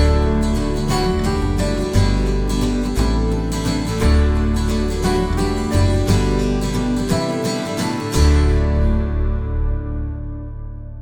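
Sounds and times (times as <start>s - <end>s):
steady bass: 0.0s - 11.0s
strummed acoustic guitar music: 0.0s - 11.0s.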